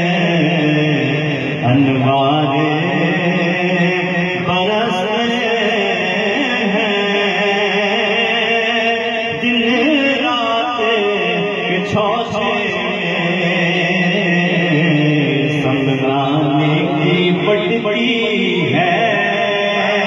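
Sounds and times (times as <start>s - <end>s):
melodic devotional chanting: 0.0s - 20.0s.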